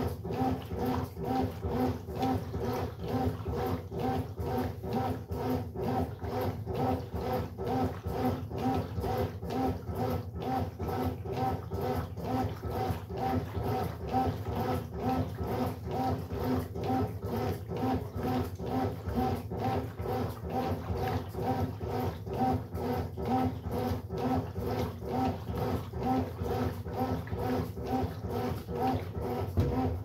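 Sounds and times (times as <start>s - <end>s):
washing machine rhythmic groan: 0.0s - 30.0s.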